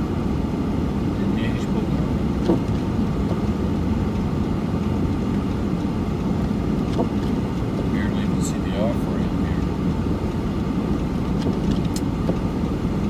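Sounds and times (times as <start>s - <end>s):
vehicle rumble on snowy road: 0.0s - 13.0s.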